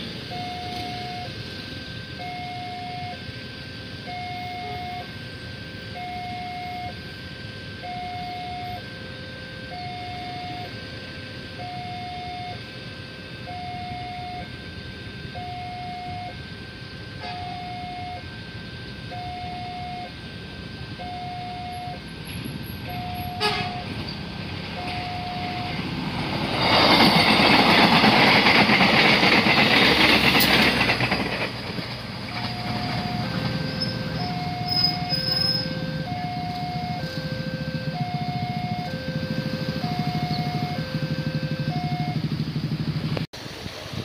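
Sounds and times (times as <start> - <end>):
two-tone crossing warning chime: 0.0 - 43.2
waiting vehicles noise: 0.0 - 44.0.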